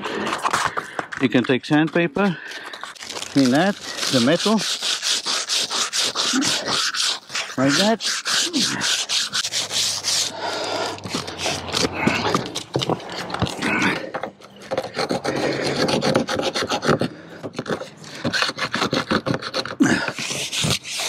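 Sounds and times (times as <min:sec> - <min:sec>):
hand scraper rasping on metal: 0:00.0 - 0:21.0.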